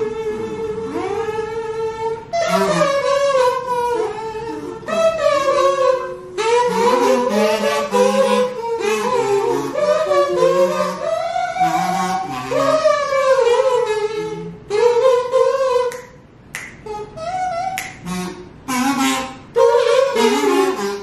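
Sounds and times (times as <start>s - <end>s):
kazoos buzzing a tune: 0.0s - 21.0s.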